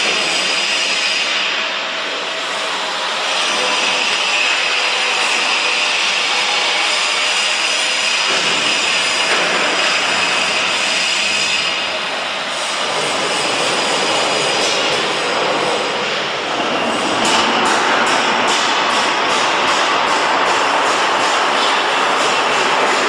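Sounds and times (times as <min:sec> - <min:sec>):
machinery running with high whine: 0:00.0 - 0:23.0.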